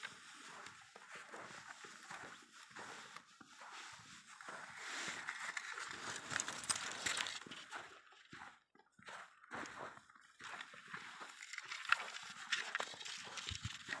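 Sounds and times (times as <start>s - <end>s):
footsteps crunching through snow: 0.0s - 14.0s.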